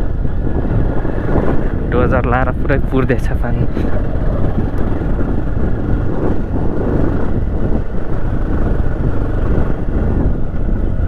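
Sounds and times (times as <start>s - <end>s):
motorcycle riding on dirt road: 0.0s - 11.0s.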